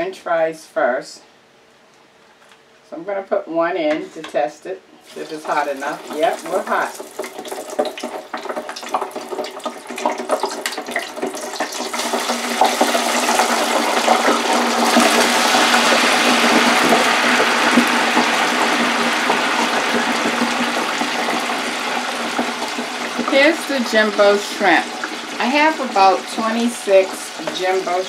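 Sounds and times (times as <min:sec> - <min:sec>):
fries hissing and bubbling in oil: 0:05.0 - 0:28.0.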